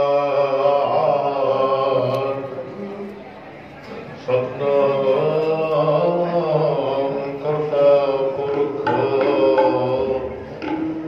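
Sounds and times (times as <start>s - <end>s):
person singing a hymn: 0.0s - 3.2s, 4.2s - 11.0s.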